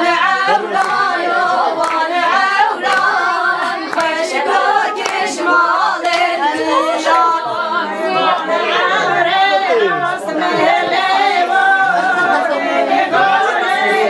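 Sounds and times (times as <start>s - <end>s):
women singing unaccompanied: 0.0s - 14.0s.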